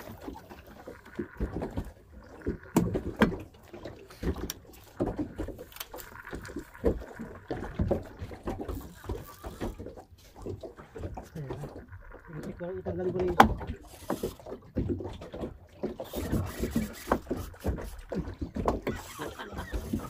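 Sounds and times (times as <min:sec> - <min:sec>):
water slapping boat hull: 0:00.0 - 0:20.0.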